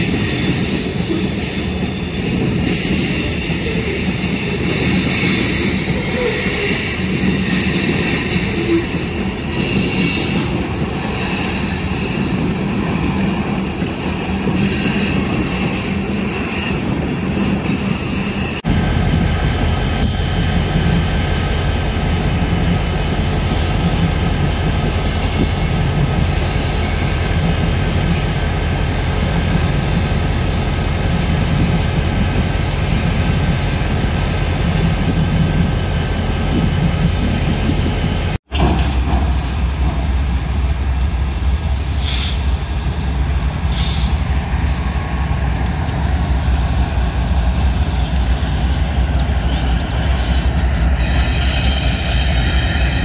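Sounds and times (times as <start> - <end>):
wheel squeal: 0.0 - 38.9, 47.8 - 53.0
diesel locomotive rumble: 0.0 - 53.0.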